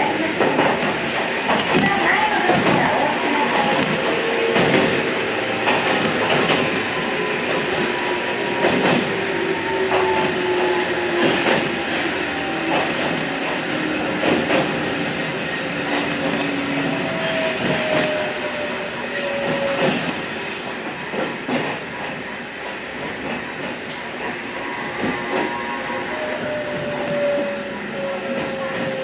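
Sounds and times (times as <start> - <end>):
electric train running: 0.0 - 29.0.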